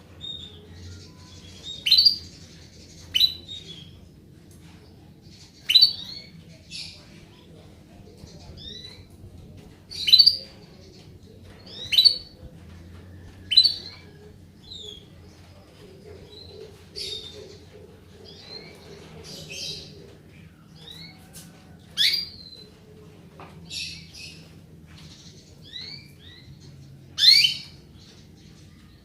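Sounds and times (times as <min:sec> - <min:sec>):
soft canary chirps: 0:00.0 - 0:22.8, 0:23.6 - 0:29.0.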